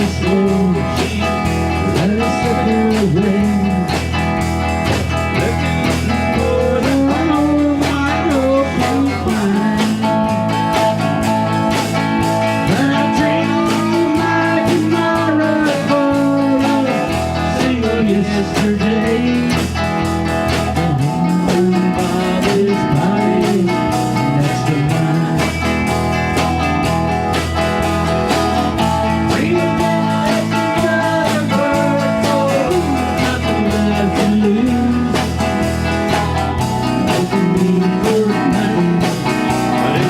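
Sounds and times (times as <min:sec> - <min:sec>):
bass guitar: 0:00.0 - 0:40.0
drums: 0:00.0 - 0:40.0
lead guitar melodic bends: 0:00.0 - 0:40.0.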